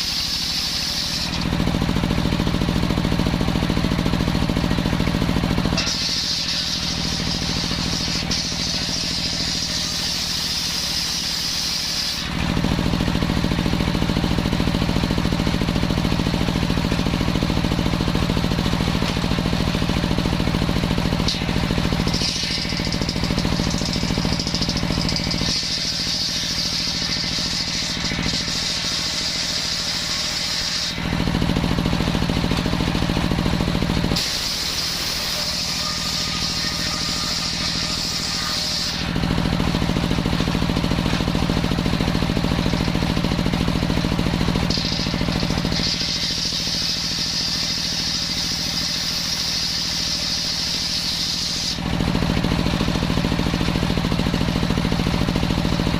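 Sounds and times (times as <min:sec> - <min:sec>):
circular saw running: 0:00.0 - 0:55.9
high-pitched cutting whine: 0:05.0 - 0:14.2, 0:17.0 - 0:53.8.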